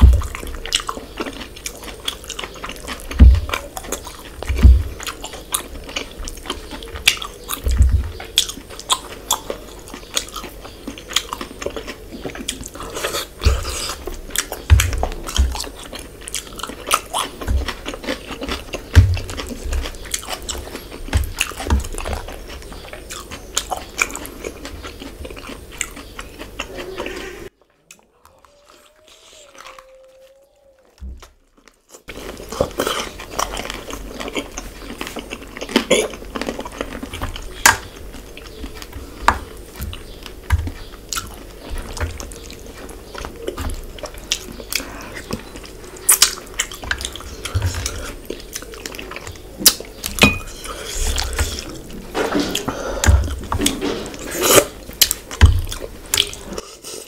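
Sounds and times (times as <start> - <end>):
chewing and biting: 0.0 - 57.0.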